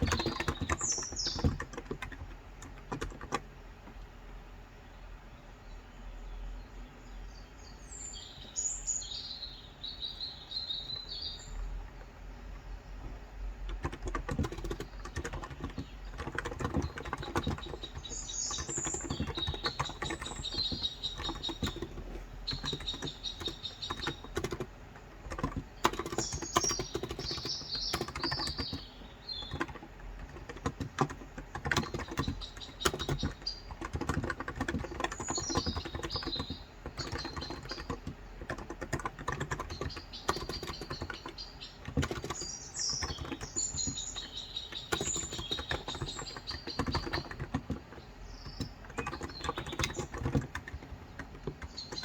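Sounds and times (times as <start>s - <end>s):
keyboard key clicks: 0.0s - 3.5s, 13.7s - 52.0s
birds chirping: 0.0s - 52.0s.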